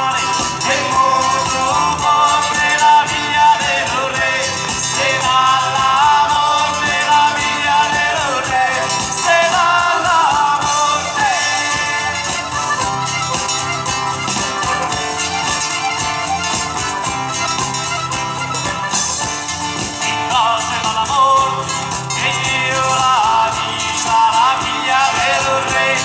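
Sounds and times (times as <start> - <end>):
accordion: 0.0 - 26.0
guitars: 0.0 - 26.0
sliding melody line: 0.0 - 26.0
tambourine jingling: 0.0 - 26.0.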